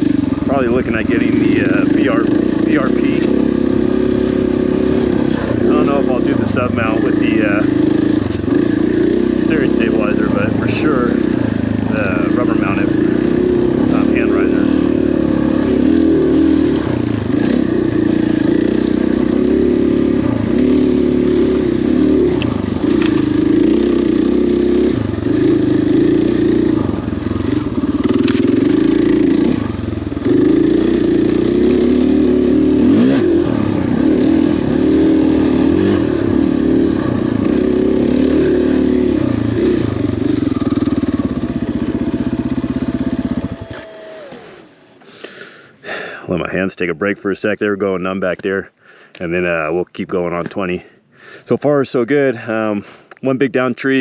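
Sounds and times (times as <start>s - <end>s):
motorcycle engine running: 0.0s - 47.1s.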